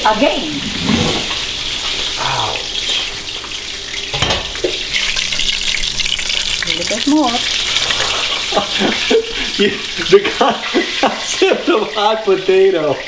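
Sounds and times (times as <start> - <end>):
meat frying in hot oil: 0.0 - 13.0.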